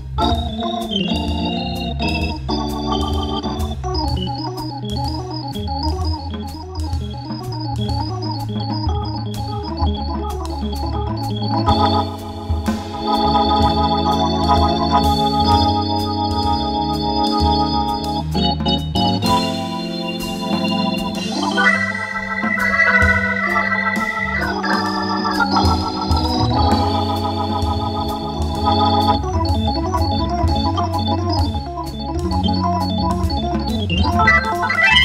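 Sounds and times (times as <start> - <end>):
drum kit with cymbals: 0.0 - 35.0
jazz organ playing: 0.0 - 35.0.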